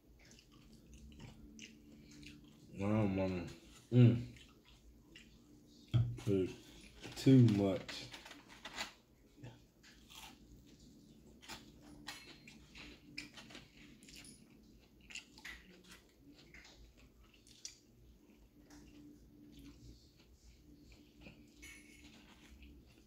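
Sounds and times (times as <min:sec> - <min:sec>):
person chewing food: 0:00.0 - 0:07.0, 0:08.2 - 0:23.0.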